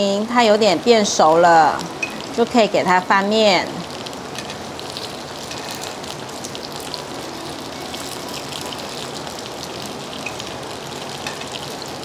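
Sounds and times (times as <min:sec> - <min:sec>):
spring rolls sizzling in pan: 0:00.0 - 0:12.0.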